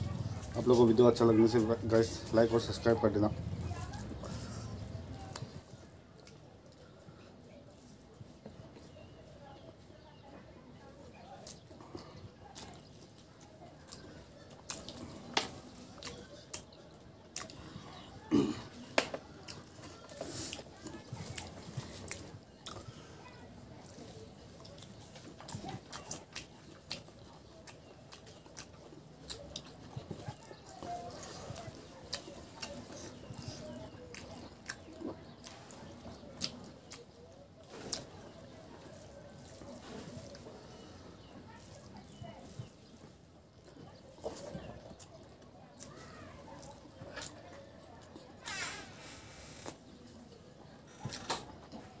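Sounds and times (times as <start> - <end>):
wet chewing: 0.0 - 7.0, 11.1 - 52.0.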